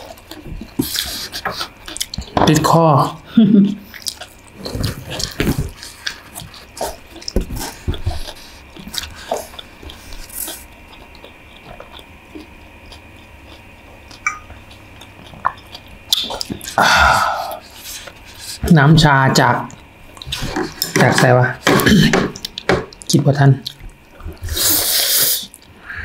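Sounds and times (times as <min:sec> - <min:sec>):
people chewing noodles: 0:00.0 - 0:26.0.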